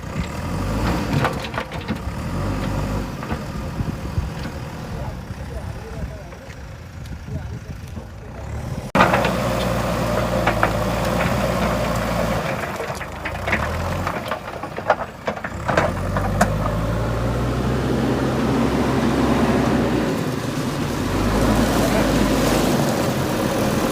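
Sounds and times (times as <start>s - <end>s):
diesel engine running under load: 0.0s - 23.9s.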